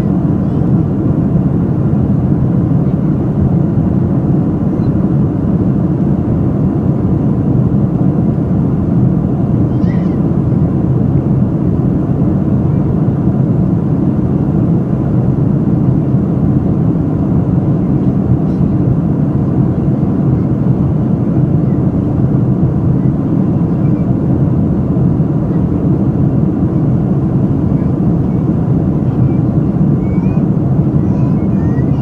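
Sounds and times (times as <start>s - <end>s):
airliner rumble: 0.0s - 32.0s.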